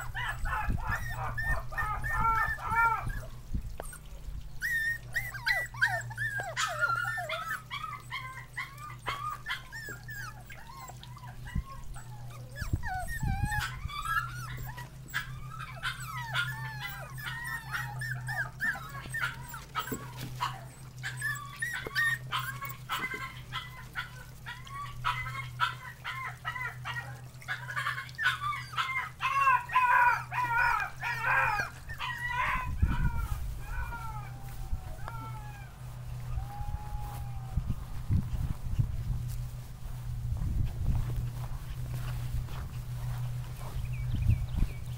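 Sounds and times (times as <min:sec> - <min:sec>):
puppies whimpering and yipping: 0:00.0 - 0:44.9
steady low hum: 0:00.0 - 0:44.9.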